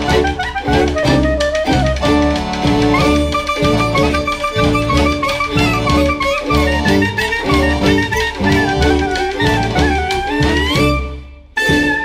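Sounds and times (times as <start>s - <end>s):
folk ensemble playing dance tune: 0.0s - 12.0s.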